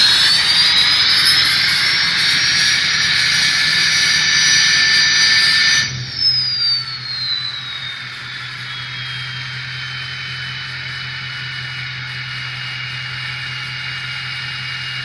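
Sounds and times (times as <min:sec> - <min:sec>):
diesel engine revving: 0:00.0 - 0:15.0
turbo whistle: 0:00.0 - 0:15.0.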